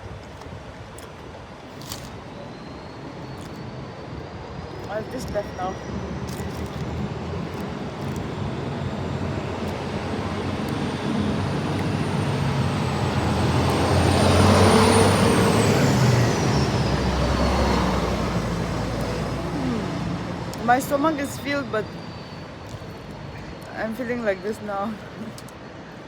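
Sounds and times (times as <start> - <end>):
train passing with whine: 2.1 - 26.0.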